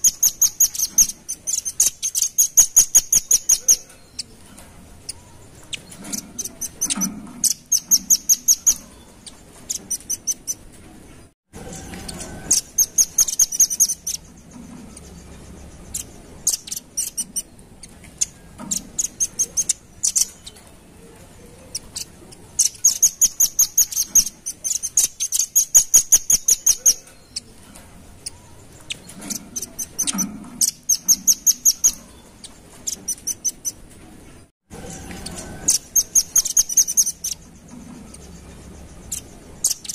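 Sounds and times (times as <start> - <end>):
bird high chipping calls: 0.0 - 4.4, 5.0 - 10.6, 11.7 - 27.5, 28.2 - 33.8, 34.8 - 39.9.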